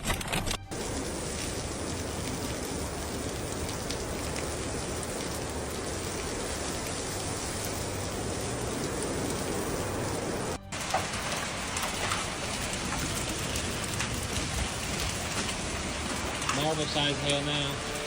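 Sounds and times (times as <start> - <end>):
heavy rain and hail: 0.0 - 18.0.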